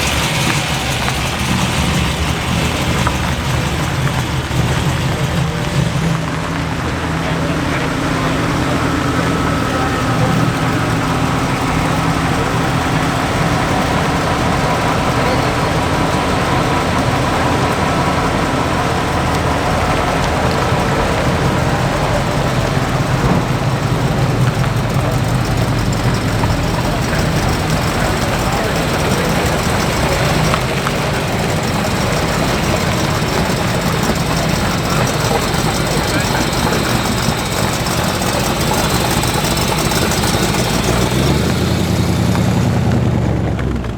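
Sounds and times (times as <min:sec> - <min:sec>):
car engines idling: 0:00.0 - 0:43.9.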